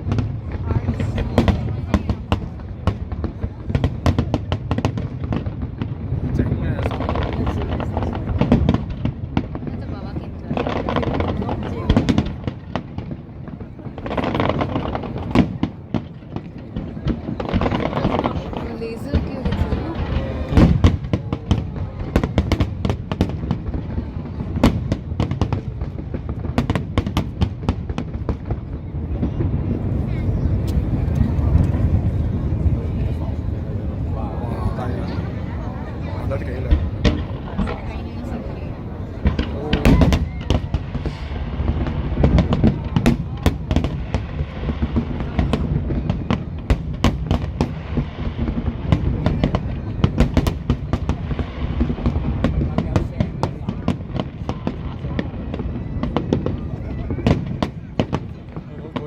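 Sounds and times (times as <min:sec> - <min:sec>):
fireworks bangs and cracks: 0:00.0 - 0:59.0
low rumble of booms: 0:00.0 - 0:59.0.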